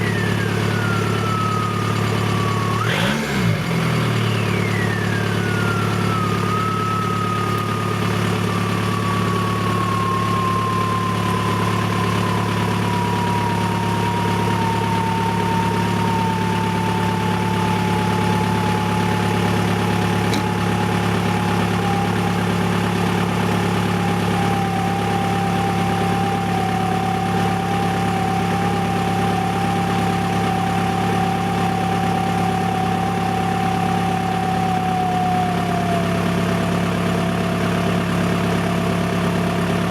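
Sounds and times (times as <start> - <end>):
diesel engine idling: 0.0 - 39.9
high whine: 0.0 - 39.9.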